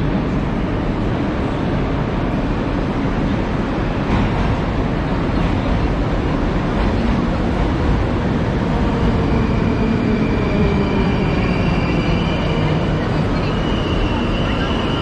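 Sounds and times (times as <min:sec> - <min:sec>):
high train whine: 0:00.0 - 0:15.0
metro train rumbling: 0:00.0 - 0:15.0.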